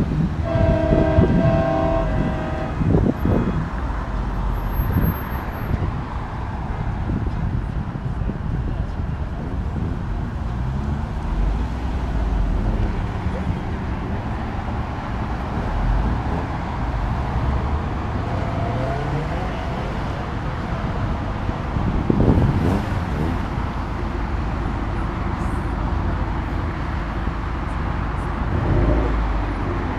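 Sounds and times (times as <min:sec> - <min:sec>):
car engines driving out: 0:00.0 - 0:29.9.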